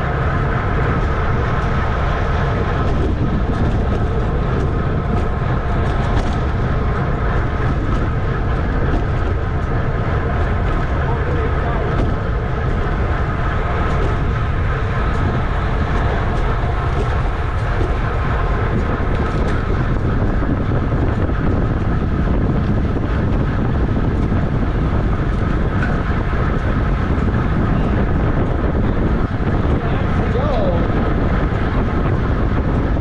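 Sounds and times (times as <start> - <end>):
road and drivetrain noise: 0.0 - 33.0
wind rushing over microphone: 0.0 - 33.0.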